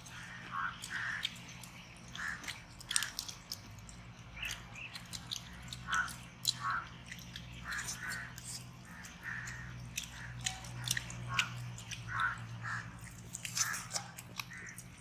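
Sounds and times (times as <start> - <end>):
people chewing and lip-smacking: 0.0 - 15.0.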